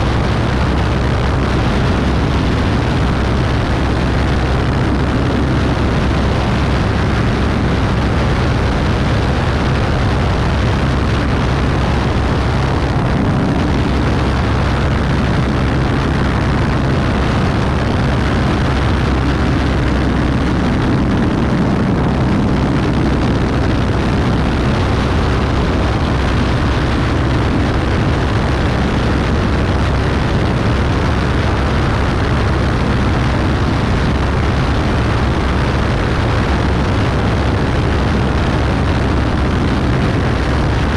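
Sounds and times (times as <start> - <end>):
aircraft engine drone: 0.0 - 40.9
wind rushing over microphone: 0.0 - 40.9.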